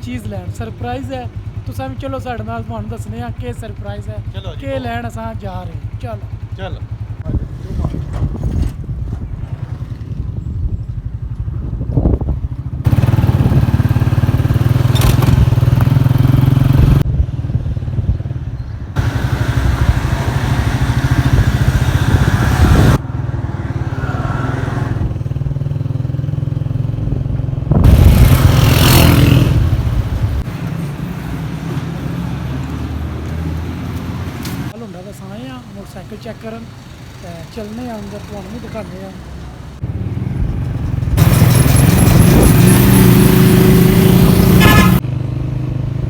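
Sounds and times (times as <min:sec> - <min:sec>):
motorcycle engine running: 0:00.0 - 0:32.1, 0:39.8 - 0:46.0
wind and road noise: 0:05.8 - 0:46.0.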